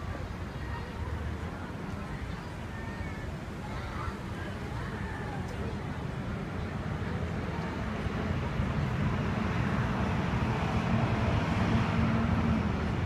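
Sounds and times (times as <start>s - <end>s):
motor vehicle engine rumble: 0.0s - 13.0s.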